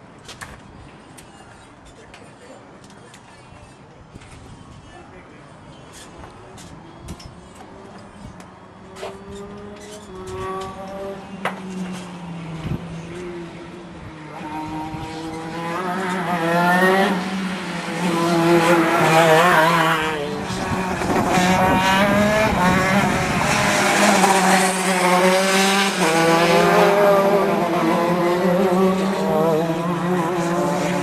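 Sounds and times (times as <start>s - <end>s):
racing kart engines accelerating: 6.2s - 31.0s.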